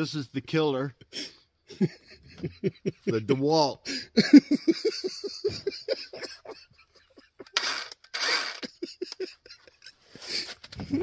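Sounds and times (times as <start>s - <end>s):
men laughing: 1.0s - 11.0s.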